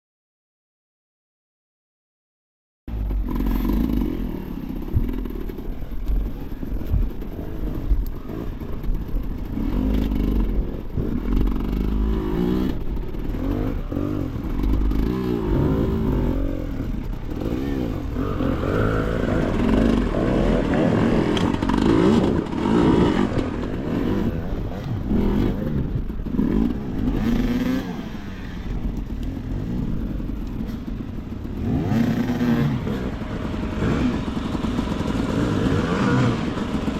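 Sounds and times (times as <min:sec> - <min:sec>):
motorcycle engine revving: 0:02.9 - 0:36.9.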